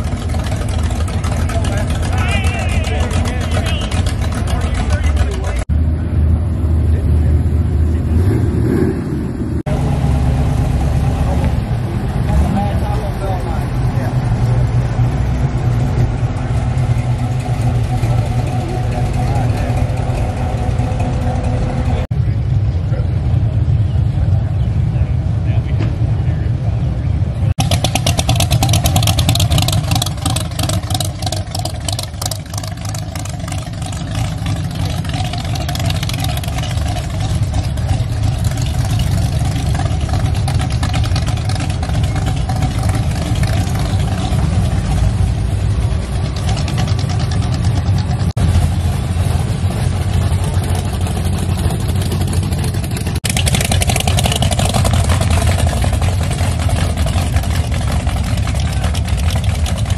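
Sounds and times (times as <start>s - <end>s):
engine exhaust rumble: 0.0s - 59.9s.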